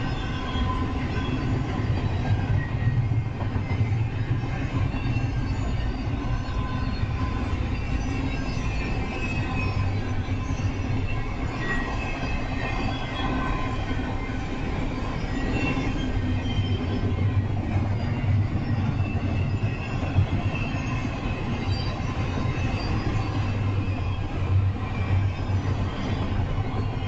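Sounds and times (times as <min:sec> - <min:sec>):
high wheel squeals: 0:00.0 - 0:27.0
train wheels rumbling on rail: 0:00.0 - 0:27.0.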